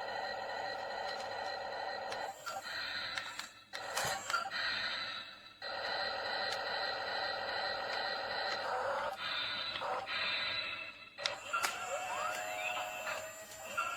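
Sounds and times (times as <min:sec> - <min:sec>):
toy electric motors whining: 0:00.0 - 0:13.9.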